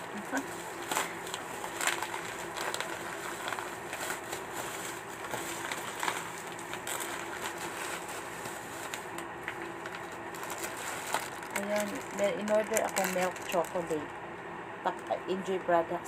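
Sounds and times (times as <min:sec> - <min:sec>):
plastic packaging crinkling: 0:00.0 - 0:14.1
faint hum: 0:00.0 - 0:16.0.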